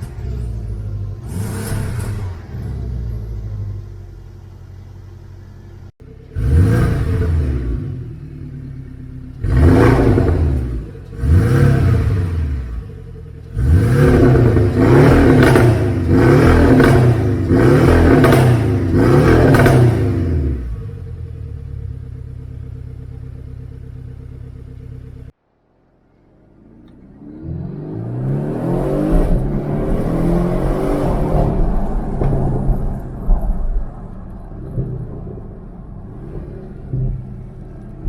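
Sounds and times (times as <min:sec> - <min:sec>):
car engine revving and idling: 0:00.0 - 0:38.0.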